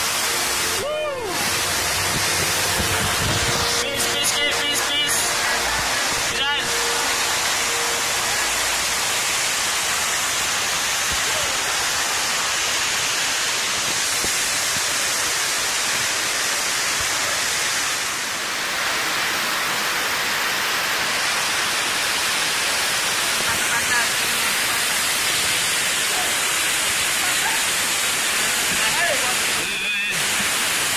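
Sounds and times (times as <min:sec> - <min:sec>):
river rapids rushing: 0:00.0 - 0:30.9.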